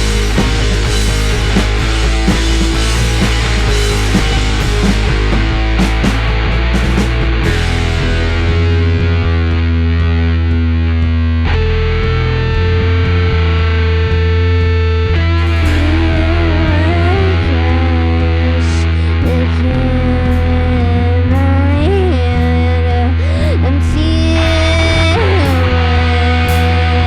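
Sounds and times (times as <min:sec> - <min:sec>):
live rock band playing: 0:00.0 - 0:13.8, 0:14.4 - 0:20.6, 0:24.4 - 0:27.0
distorted electric guitar: 0:00.0 - 0:27.0
heavy bass: 0:00.0 - 0:27.0
wavering guitar melody: 0:00.0 - 0:27.0.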